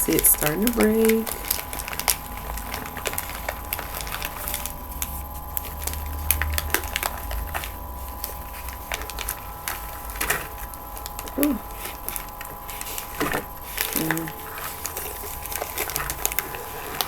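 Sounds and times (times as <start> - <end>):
cornstarch chunks cracking: 0.0 - 17.0
steady low hum: 0.0 - 17.0.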